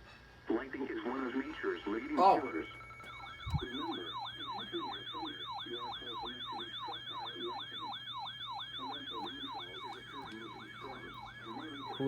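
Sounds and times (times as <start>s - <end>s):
electronic siren yelping: 2.2s - 12.0s.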